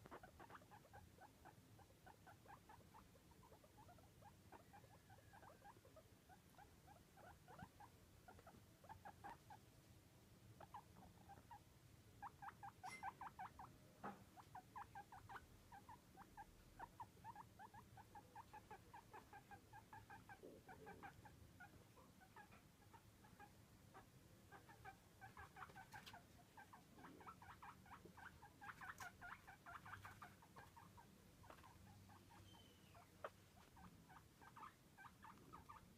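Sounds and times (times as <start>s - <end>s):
guinea pig squeaking: 0.0s - 9.6s, 10.6s - 13.7s, 14.3s - 35.9s.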